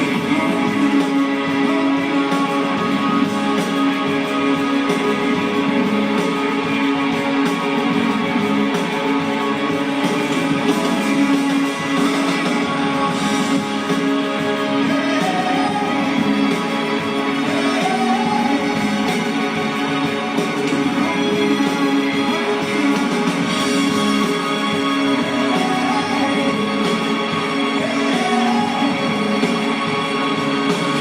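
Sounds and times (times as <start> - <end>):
strummed guitars: 0.0 - 31.0
sustained instrumental bed: 0.0 - 31.0.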